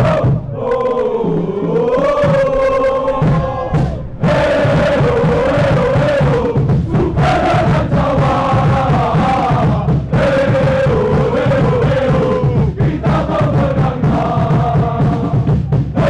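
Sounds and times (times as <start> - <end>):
crowd chanting in unison: 0.0 - 16.0.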